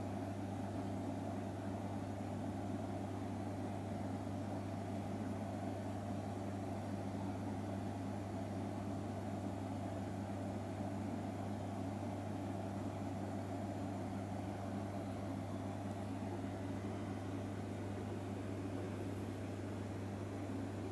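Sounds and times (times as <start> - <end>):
low machine hum: 0.0 - 20.9.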